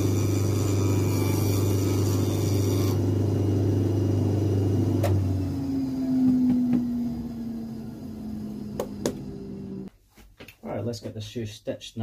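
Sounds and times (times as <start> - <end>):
shoe finishing machine hum: 0.0 - 9.9.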